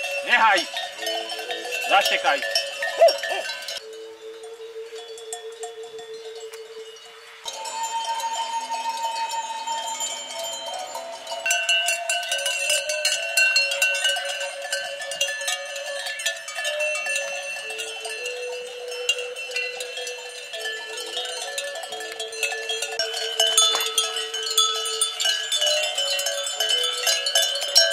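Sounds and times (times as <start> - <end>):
sheep bells clanking: 0.0 - 27.9.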